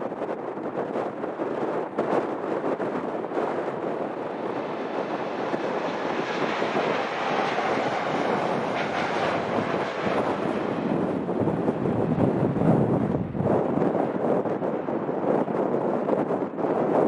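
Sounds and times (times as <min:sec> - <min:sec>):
jet engines roaring: 0:00.6 - 0:15.5.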